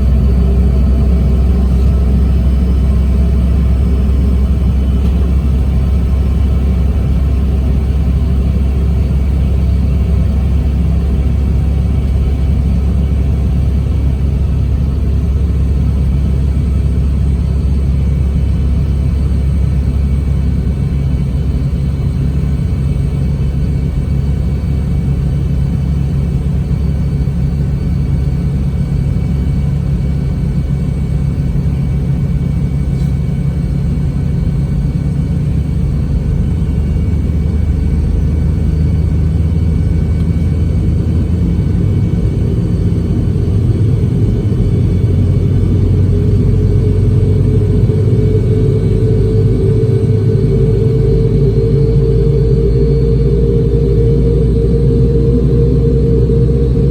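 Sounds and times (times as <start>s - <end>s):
aircraft cabin engine rumble: 0.0s - 56.9s
jet engine spooling up: 0.0s - 56.9s.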